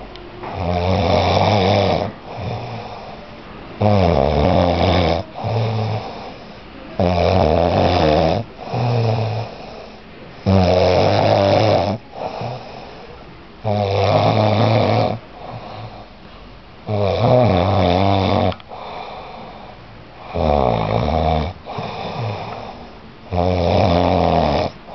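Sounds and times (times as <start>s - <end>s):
person snoring: 0.5s - 3.2s, 3.8s - 16.1s, 16.9s - 24.8s.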